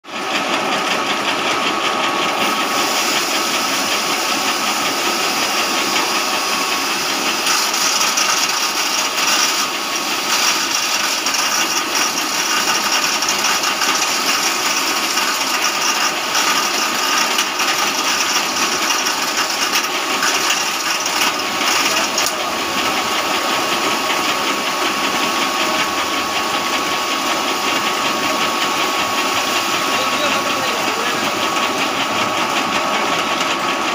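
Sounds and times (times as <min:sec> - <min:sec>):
feed grinder running: 0:00.0 - 0:33.9.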